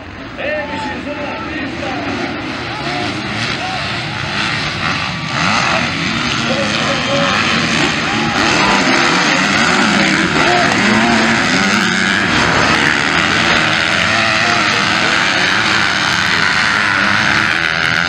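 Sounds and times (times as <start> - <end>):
motocross bikes revving: 0.0 - 18.0.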